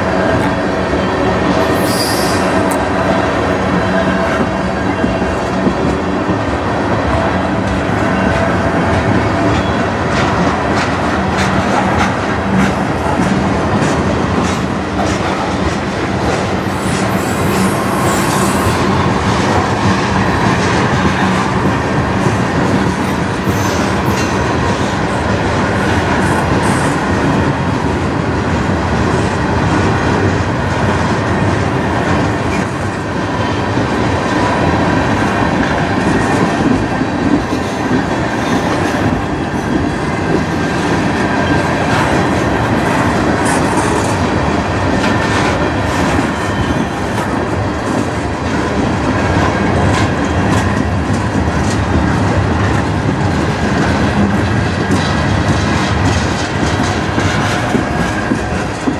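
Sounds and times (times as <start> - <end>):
freight train wheels rumbling: 0.0 - 58.9.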